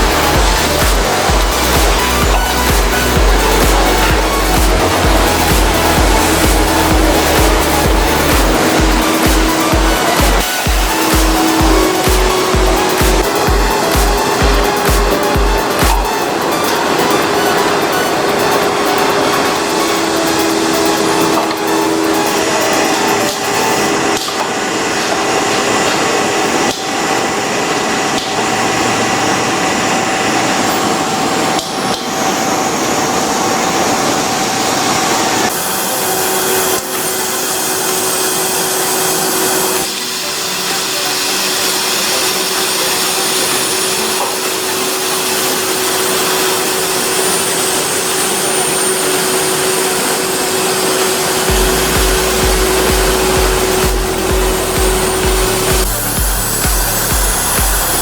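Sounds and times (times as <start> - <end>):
mechanical workshop noise: 0.0 - 58.0.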